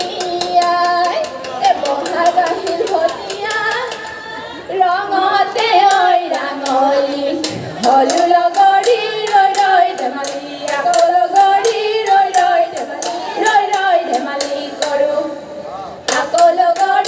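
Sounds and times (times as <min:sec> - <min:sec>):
women singing: 0:00.0 - 0:17.0.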